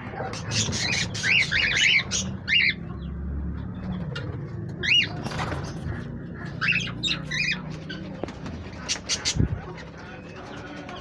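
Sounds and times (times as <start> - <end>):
pet birds calling: 0.0 - 11.0.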